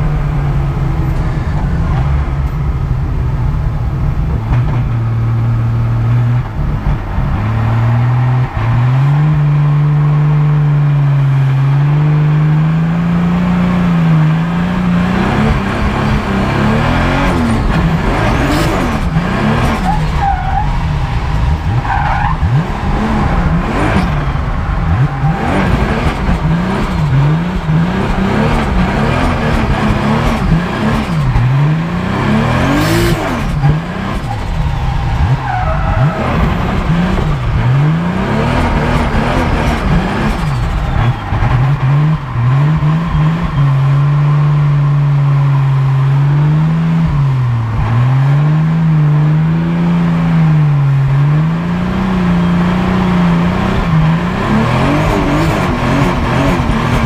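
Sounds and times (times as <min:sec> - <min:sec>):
car engine revving: 0:00.0 - 0:57.0
tyres skidding: 0:00.0 - 0:57.0.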